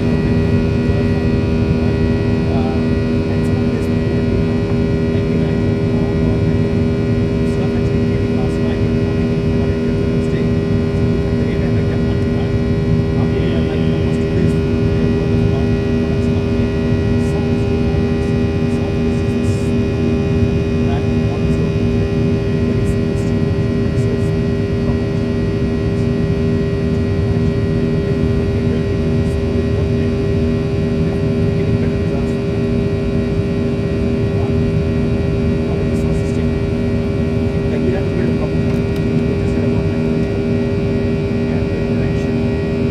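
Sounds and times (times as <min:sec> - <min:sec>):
airliner cabin engine drone: 0:00.0 - 0:42.9.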